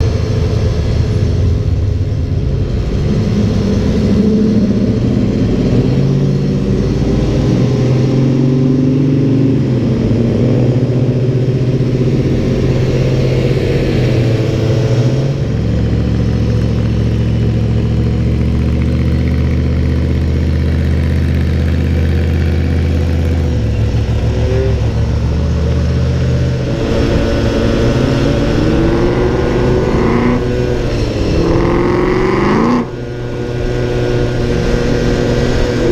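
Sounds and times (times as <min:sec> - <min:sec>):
car engine revving: 0:00.0 - 0:35.9
car engines idling: 0:00.0 - 0:35.9.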